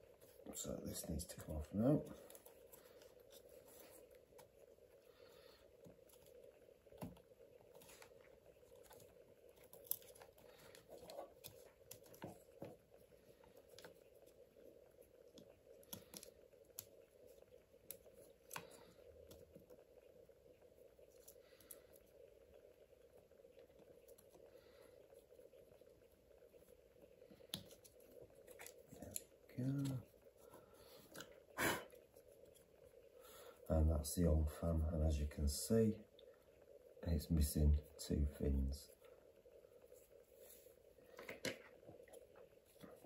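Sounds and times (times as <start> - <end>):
faint clicks and rustles: 0.0 - 33.7, 37.8 - 43.0
faint steady hum: 0.0 - 43.0.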